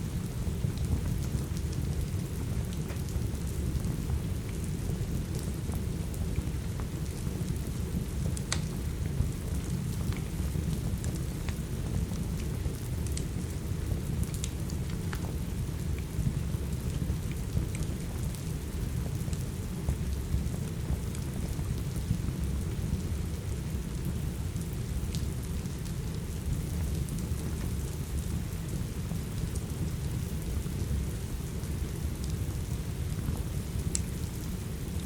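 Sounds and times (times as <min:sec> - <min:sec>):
steady rain: 0:00.0 - 0:35.0
wood fire crackling: 0:00.0 - 0:35.0.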